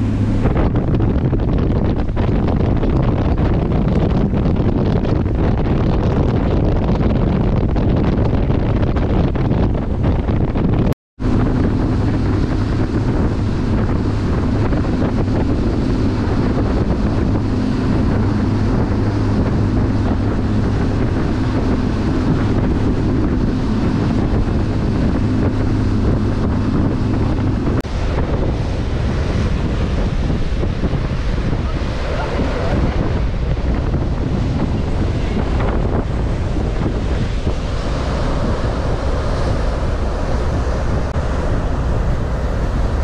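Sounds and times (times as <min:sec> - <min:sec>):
boat engines droning: 0:00.0 - 0:03.8, 0:11.2 - 0:43.0
rushing water: 0:00.0 - 0:10.6, 0:11.2 - 0:43.0
wind buffeting microphone: 0:00.0 - 0:43.0.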